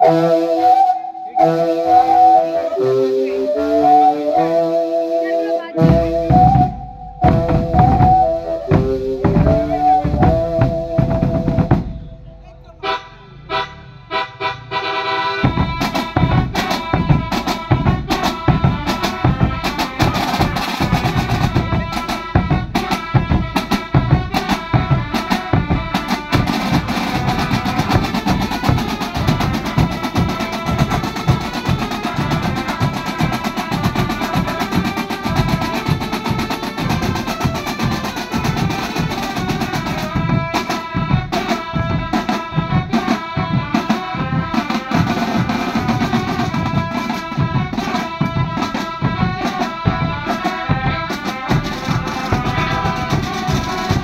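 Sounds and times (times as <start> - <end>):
side drums beating fast: 5.8 - 12.9, 15.4 - 54.0
bass drums: 5.8 - 13.6, 15.4 - 54.0.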